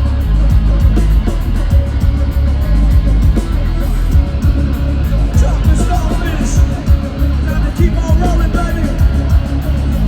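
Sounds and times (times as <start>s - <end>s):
live metal band playing: 0.0s - 10.0s.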